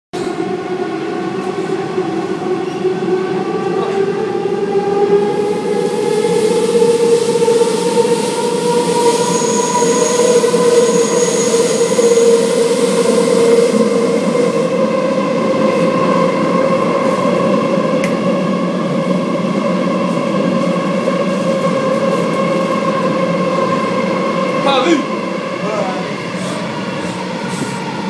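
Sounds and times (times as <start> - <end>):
train wheel and track noise: 0.2 - 28.0
train whine: 0.2 - 28.0.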